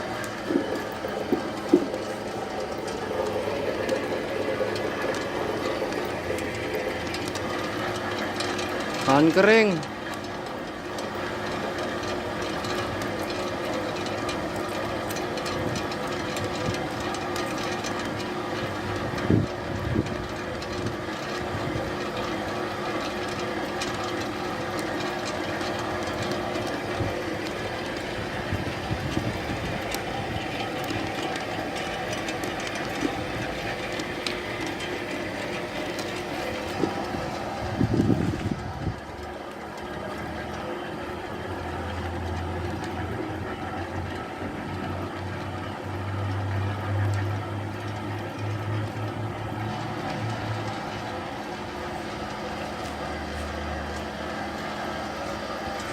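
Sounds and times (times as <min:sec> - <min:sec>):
pellet machine droning: 0:00.0 - 0:55.9.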